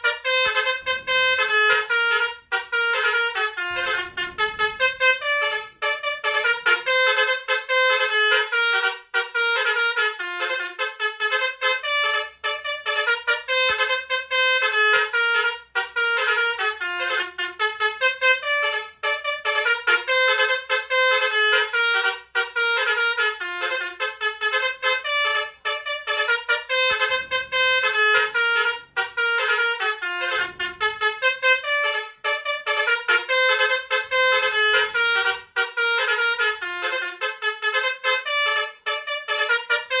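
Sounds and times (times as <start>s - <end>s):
bus horn playing melody: 0.0s - 40.0s.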